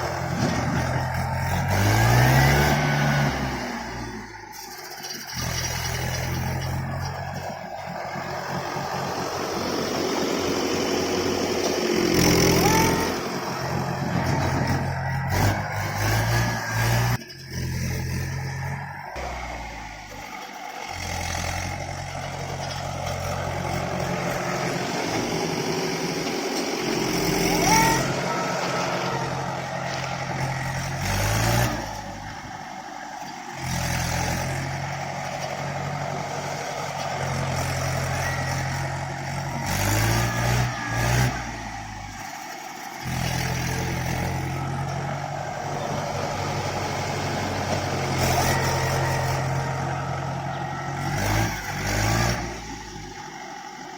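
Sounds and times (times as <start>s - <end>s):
diesel tractor engine revving: 0.0s - 53.9s.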